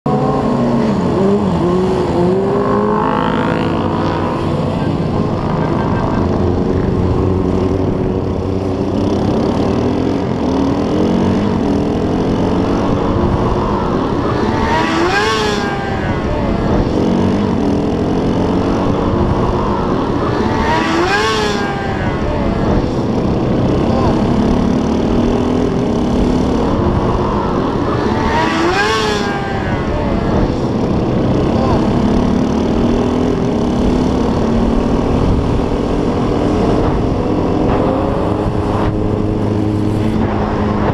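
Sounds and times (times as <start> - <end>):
dirt bike engine revving: 0.1 - 40.9
other motorcycles running: 0.1 - 40.9.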